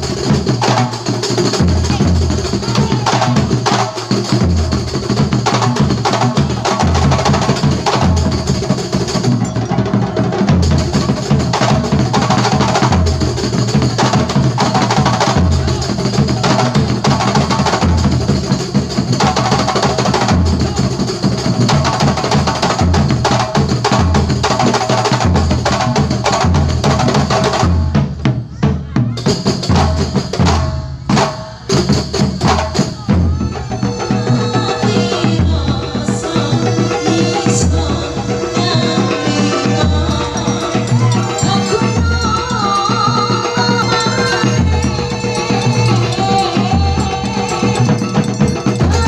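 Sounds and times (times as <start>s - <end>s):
frame drums playing rhythm: 0.0s - 49.0s
deep bass drum beats: 1.4s - 49.0s.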